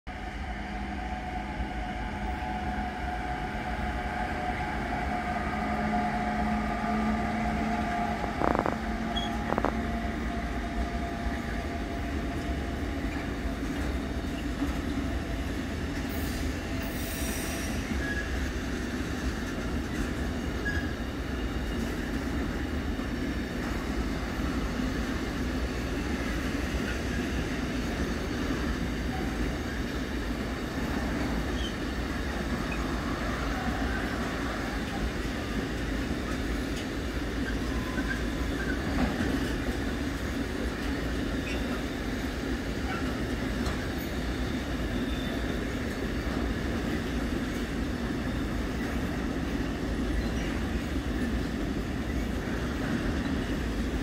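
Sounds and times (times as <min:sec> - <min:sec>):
train wheels rumbling on rails: 0:00.1 - 0:54.0.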